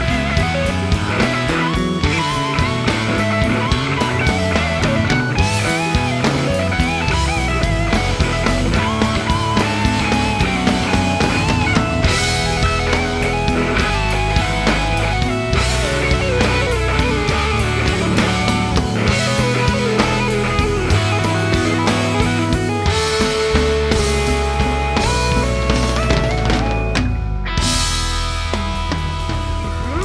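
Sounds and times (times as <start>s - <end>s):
electric guitar lead: 0.0s - 30.0s
rock music: 0.0s - 30.0s.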